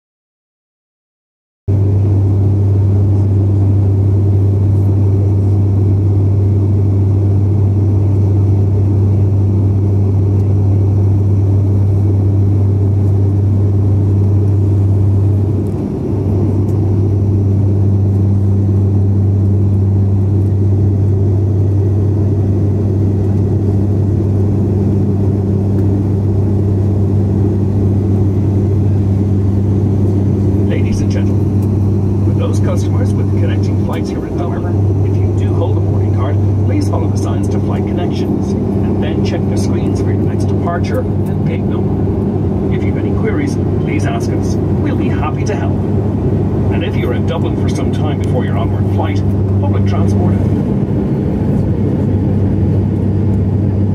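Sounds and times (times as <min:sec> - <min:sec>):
turboprop cabin drone: 0:01.7 - 0:53.9.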